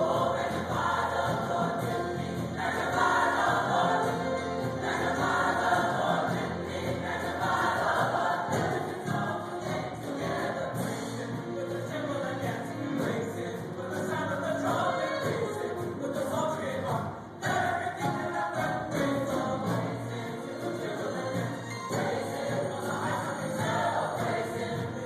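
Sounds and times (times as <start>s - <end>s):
choir singing gospel: 0.0s - 25.0s.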